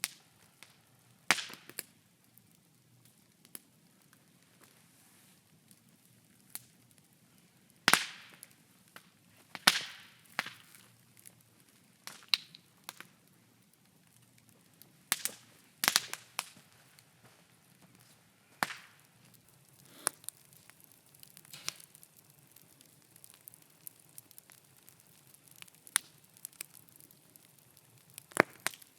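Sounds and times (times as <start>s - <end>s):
bonfire crackling and popping: 0.0s - 28.9s.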